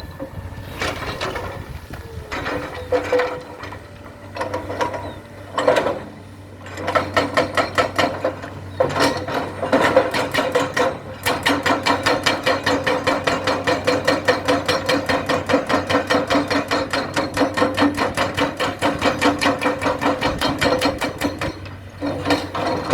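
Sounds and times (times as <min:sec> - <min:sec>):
excavator engine drone: 0:00.0 - 0:22.9.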